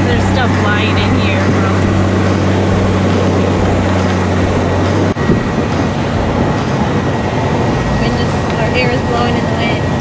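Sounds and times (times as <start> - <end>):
car engine drone: 0.0 - 10.0
road noise: 0.0 - 10.0
wind rushing: 0.0 - 10.0.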